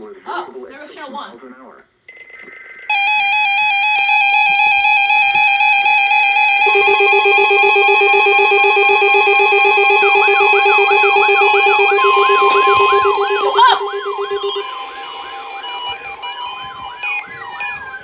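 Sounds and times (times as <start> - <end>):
electronic alarm tones: 2.1 - 18.0
warbling siren-like tone: 2.9 - 18.0
lower electronic tone: 3.3 - 18.0.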